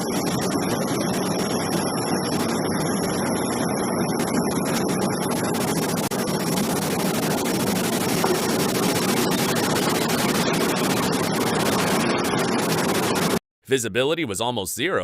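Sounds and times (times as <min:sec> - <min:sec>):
loud rushing cockpit noise: 0:00.0 - 0:13.4.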